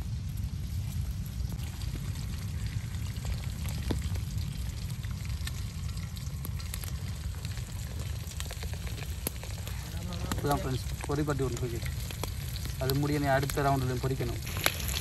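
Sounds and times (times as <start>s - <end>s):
food sizzling in a pot: 0.0s - 15.0s
sharp crackles: 0.0s - 15.0s.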